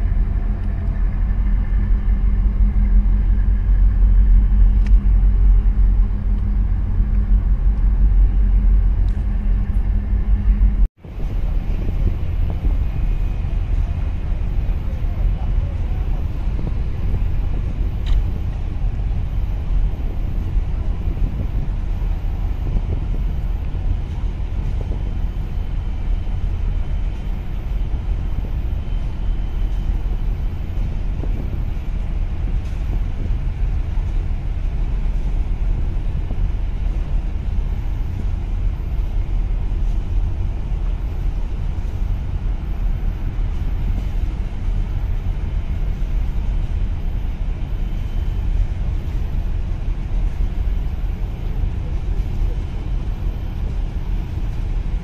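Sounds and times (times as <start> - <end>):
low bass rumble: 0.0 - 55.0.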